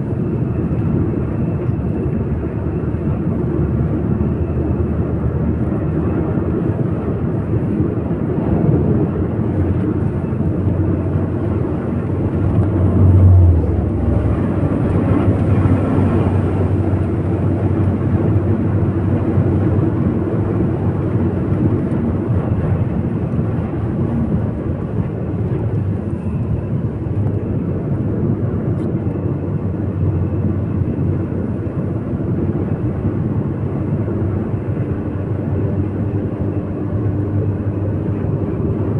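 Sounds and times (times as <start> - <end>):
car road and engine noise: 0.0 - 38.9
low rumble: 0.0 - 38.9.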